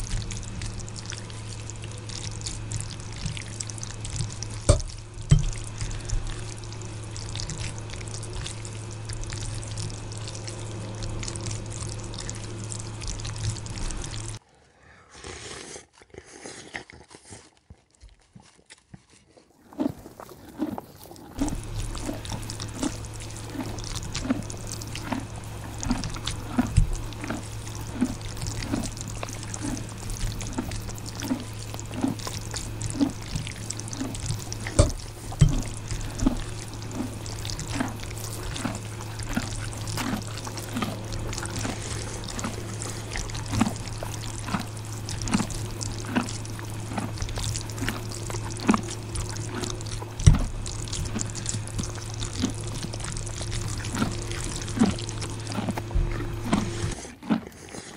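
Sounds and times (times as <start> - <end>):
chewing and slurping noodles: 0.0 - 14.4, 15.2 - 57.9
low hum: 0.0 - 14.5, 20.0 - 57.4.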